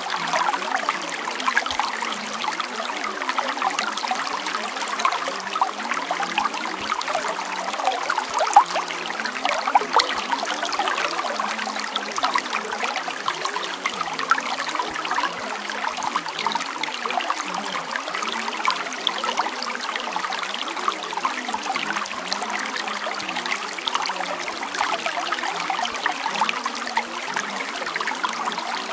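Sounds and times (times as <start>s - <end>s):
water trickling and splashing: 0.0s - 28.9s.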